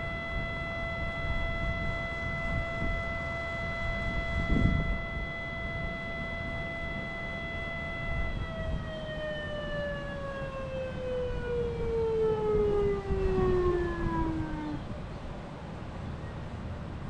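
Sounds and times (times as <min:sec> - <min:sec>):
electronic siren alert tone: 0:00.0 - 0:14.8.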